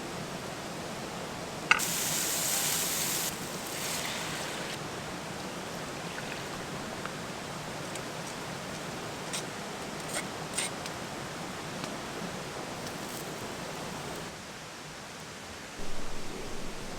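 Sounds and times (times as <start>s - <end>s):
steady outdoor hiss: 0.0s - 16.9s.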